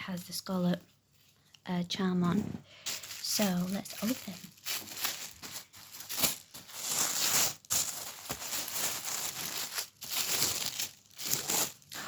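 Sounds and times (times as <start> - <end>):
packaging crinkling and rustling: 2.3 - 12.0.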